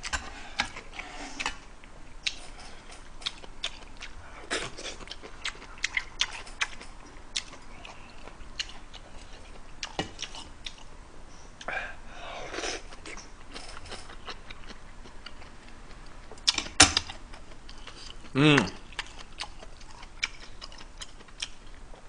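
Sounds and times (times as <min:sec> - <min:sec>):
chewing food: 0:02.2 - 0:10.9, 0:12.5 - 0:22.0.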